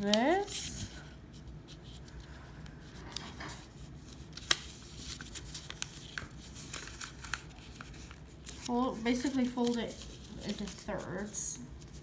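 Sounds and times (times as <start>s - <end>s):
paper rustling and creasing: 0.0s - 12.0s.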